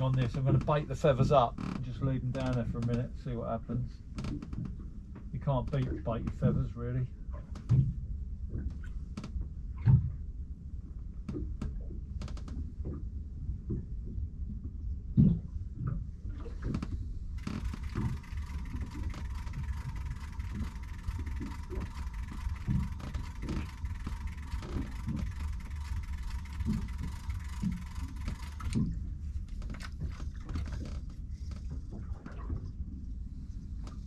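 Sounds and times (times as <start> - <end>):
low rumble of boat: 0.0 - 34.0.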